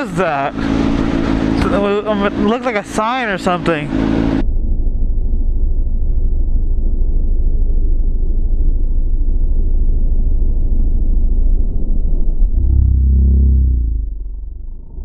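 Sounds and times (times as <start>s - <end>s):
motorcycle engine running: 0.2s - 15.0s.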